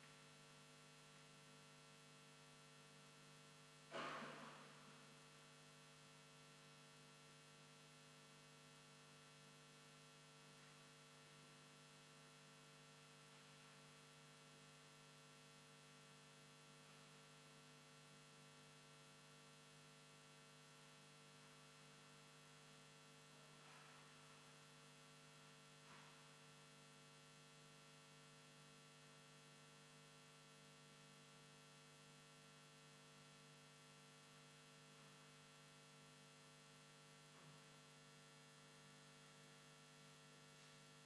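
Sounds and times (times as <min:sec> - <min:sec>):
faint electrical hum: 0:00.0 - 0:41.0.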